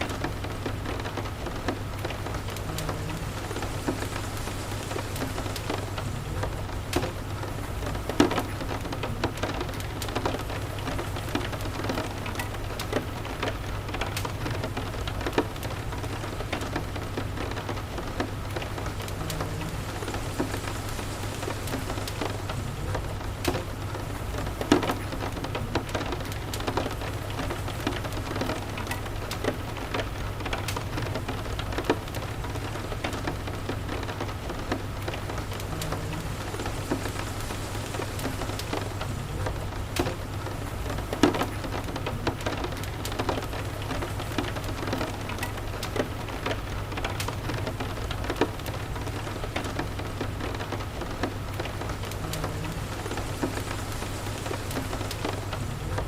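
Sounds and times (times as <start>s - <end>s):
low continuous rumble: 0.0s - 56.0s
steady rain: 0.0s - 56.0s.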